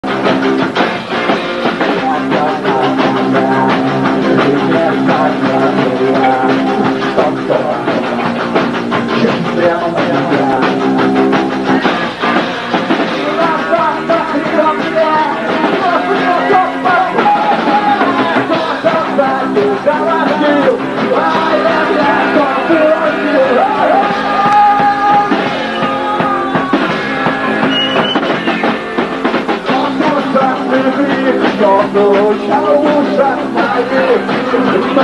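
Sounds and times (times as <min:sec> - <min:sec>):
drums: 0:00.0 - 0:35.0
guitars: 0:00.0 - 0:35.0
man singing: 0:01.8 - 0:08.5, 0:09.1 - 0:11.9, 0:13.1 - 0:27.7, 0:29.6 - 0:35.0.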